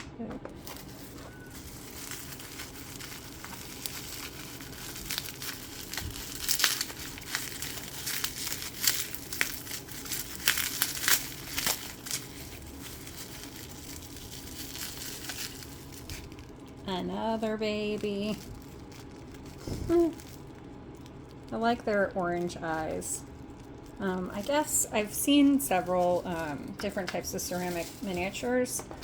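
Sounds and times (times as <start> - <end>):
bubble wrap crinkling: 0.5 - 29.0.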